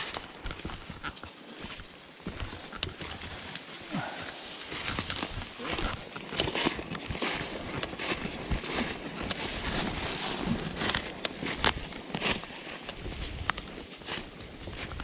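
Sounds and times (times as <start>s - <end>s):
footsteps crunching dry leaves: 0.0s - 15.0s
twigs brushing: 0.0s - 15.0s.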